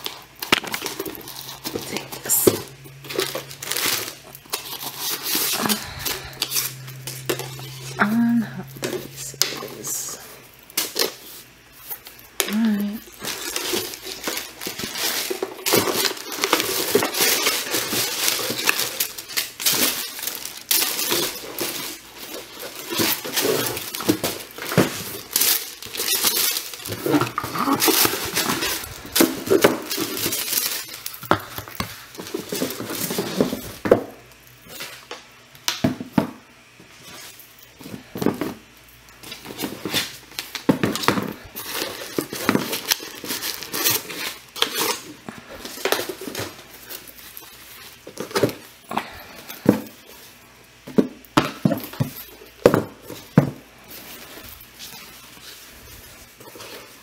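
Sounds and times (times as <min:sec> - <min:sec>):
sneakers and packaging rustling: 0:00.0 - 0:35.3, 0:35.9 - 0:57.0.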